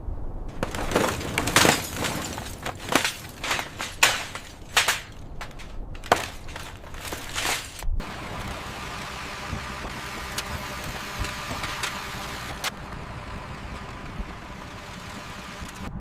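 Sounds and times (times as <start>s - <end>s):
crashing breaking impacts: 0.5s - 15.8s
debris scraping: 0.5s - 16.0s.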